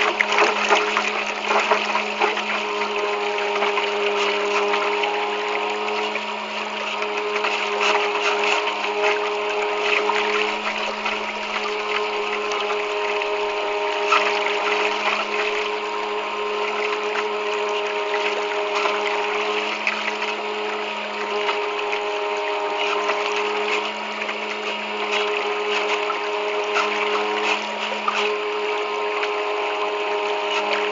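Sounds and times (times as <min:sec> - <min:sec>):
boat motor whining: 0:00.0 - 0:30.9
water rushing and splashing: 0:00.0 - 0:30.9.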